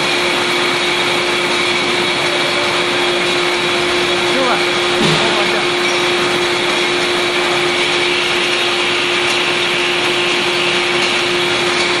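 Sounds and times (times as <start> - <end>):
bottle washing machine whirring: 0.0 - 12.0
water jets spraying: 0.6 - 12.0.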